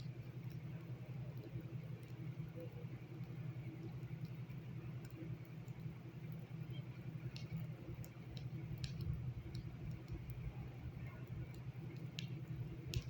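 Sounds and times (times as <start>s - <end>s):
faint irregular clicks: 0.0s - 13.0s
steady low hum: 0.0s - 13.0s.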